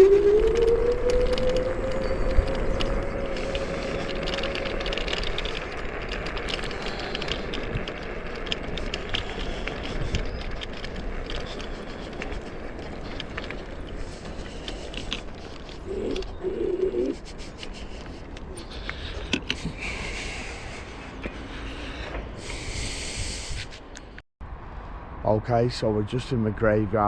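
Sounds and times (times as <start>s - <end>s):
small clicks and rattles: 0.0s - 22.9s
wind and tyre noise: 0.0s - 27.0s.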